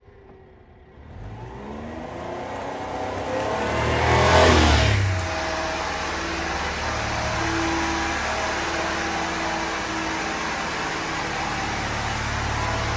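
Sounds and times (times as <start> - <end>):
small engine revving and idling: 0.0 - 12.9.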